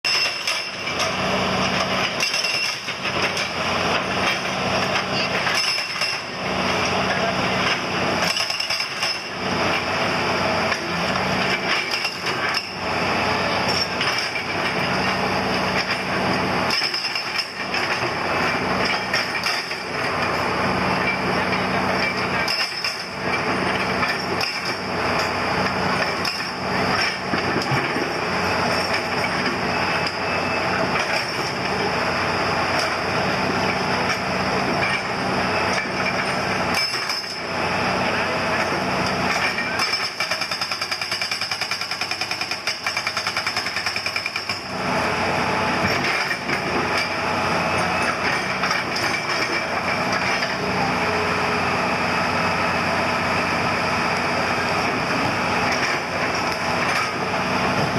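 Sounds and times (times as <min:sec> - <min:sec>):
excavator engine running: 0:00.1 - 0:57.9
hydraulic rock breaker hammering: 0:00.1 - 0:57.9.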